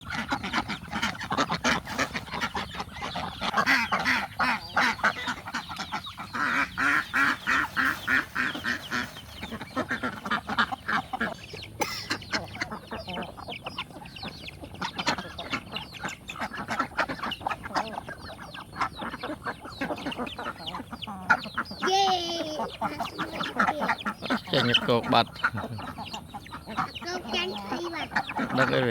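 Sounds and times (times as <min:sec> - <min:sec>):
ducks quacking: 0:00.0 - 0:28.9.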